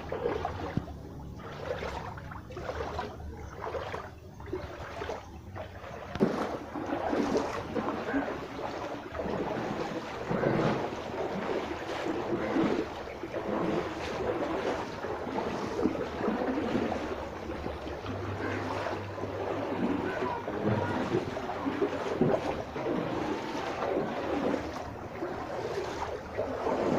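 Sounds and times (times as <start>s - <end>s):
floodwater rushing and sloshing: 0.0s - 26.9s
low steady hum: 0.0s - 26.9s.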